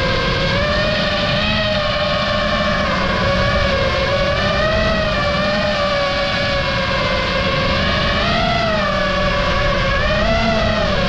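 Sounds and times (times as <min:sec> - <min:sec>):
drone motors whining: 0:00.0 - 0:11.0
wind rushing over microphone: 0:00.0 - 0:11.0.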